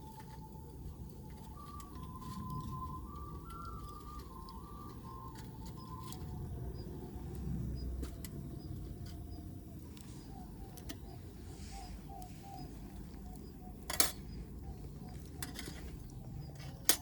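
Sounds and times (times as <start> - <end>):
low rumble: 0.0 - 16.9
bird calls: 0.1 - 17.0.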